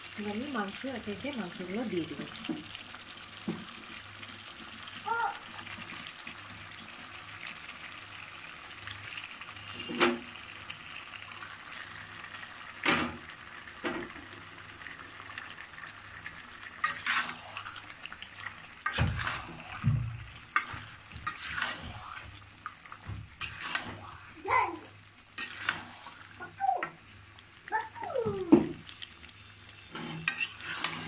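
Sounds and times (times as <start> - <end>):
spice paste sizzling: 0.0 - 31.0.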